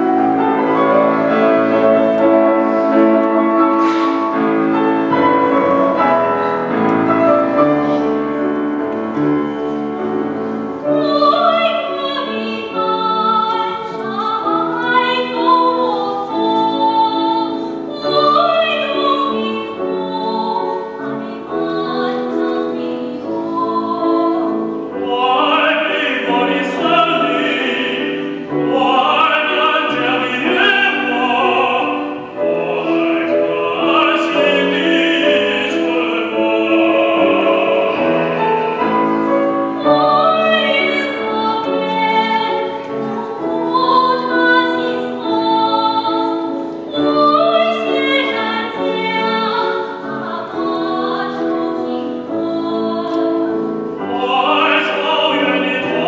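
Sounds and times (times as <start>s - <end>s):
grand piano: 0.0s - 56.0s
woman singing operatically: 10.9s - 56.0s.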